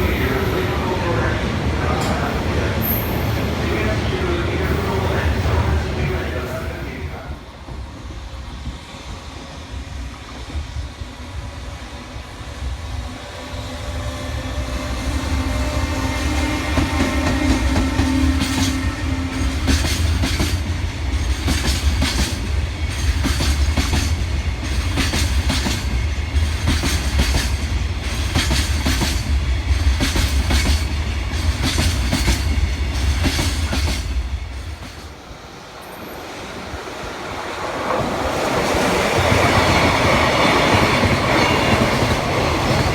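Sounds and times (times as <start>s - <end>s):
freight train rumble: 0.0s - 42.9s.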